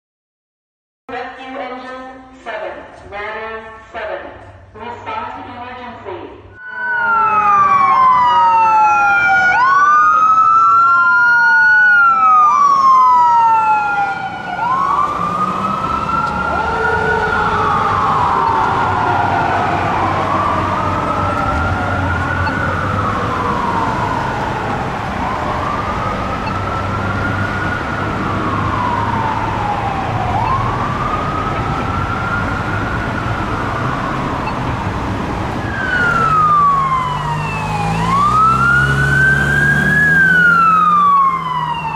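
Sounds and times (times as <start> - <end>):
fast-sweeping siren: 6.5 - 41.9
fire engine sirens wailing: 6.6 - 41.9.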